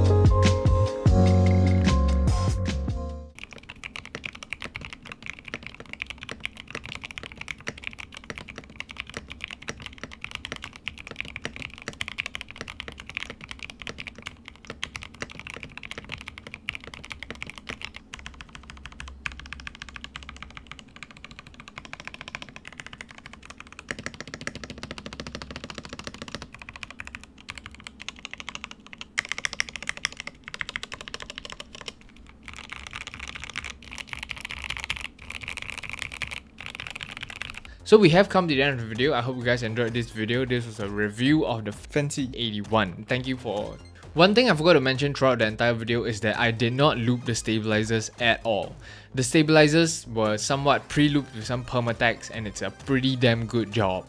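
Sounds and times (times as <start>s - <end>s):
fast typing on mechanical keyboard: 3.4s - 48.7s.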